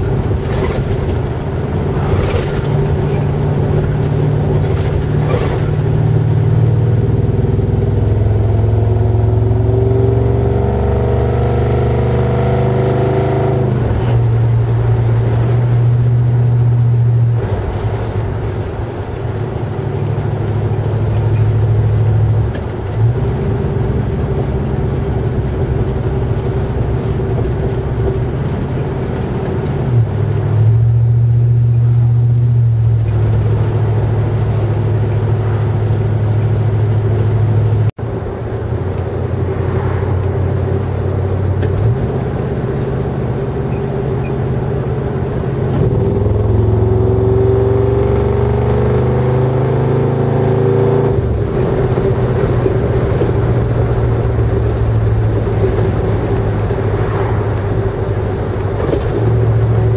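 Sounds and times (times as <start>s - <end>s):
truck engine exhaust drone: 0.0s - 59.9s.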